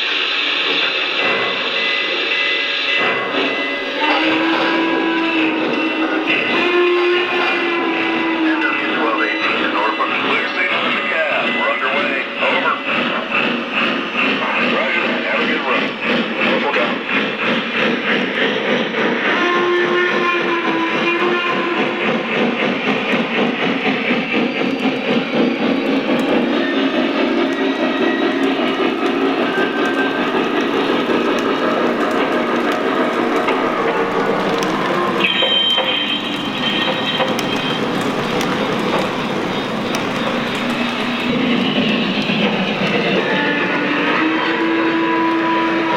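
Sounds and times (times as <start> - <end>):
wheels running on track: 0.0 - 18.8, 22.0 - 45.9
model train steam effects: 0.0 - 45.9.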